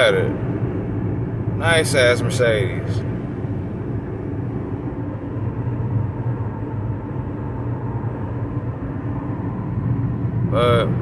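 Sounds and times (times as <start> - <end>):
car cabin tyre and engine drone: 0.0 - 11.0.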